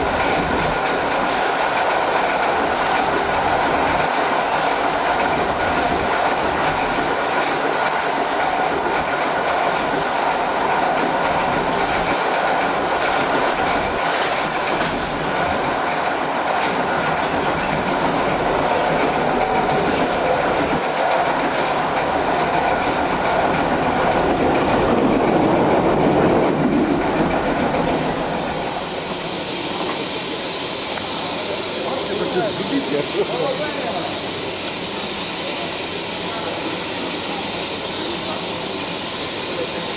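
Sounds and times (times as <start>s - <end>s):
steam hissing: 0.0s - 39.9s
train wheels clicking over rail joints: 0.0s - 39.9s.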